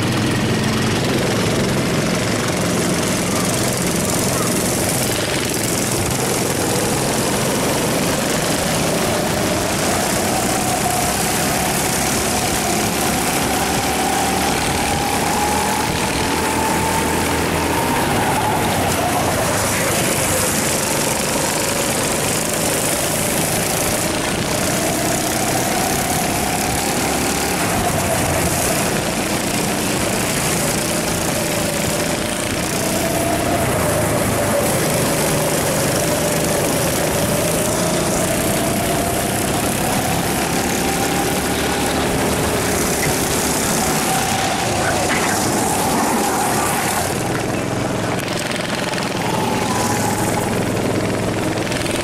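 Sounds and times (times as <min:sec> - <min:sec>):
dense rushing noise: 0:00.0 - 0:52.0
go-kart engine racing: 0:00.0 - 0:52.0
other karts running: 0:00.0 - 0:52.0.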